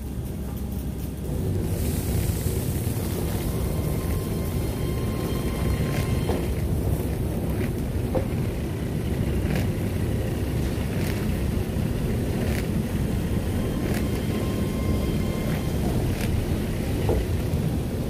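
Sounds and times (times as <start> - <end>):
low rumble of train and washer: 0.0 - 18.0.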